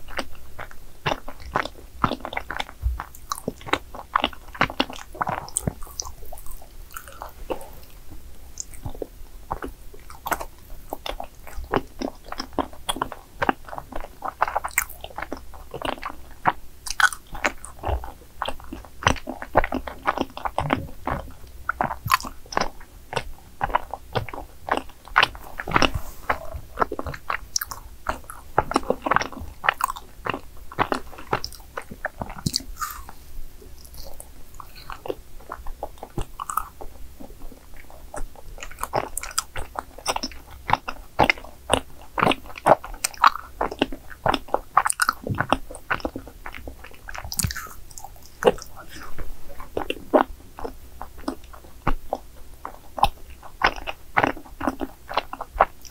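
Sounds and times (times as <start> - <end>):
close chewing clicks and smacks: 0.0 - 33.2, 33.8 - 55.9.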